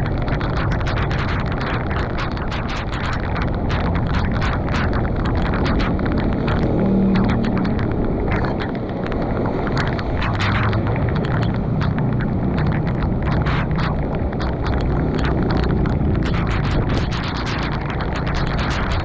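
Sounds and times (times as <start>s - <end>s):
heavy rain: 0.0s - 19.0s
water splashing: 0.0s - 19.0s
wind rumble on microphone: 0.0s - 19.0s.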